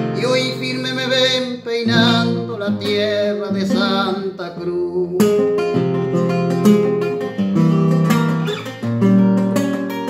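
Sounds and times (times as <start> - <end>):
classical guitar playing: 0.0 - 10.0.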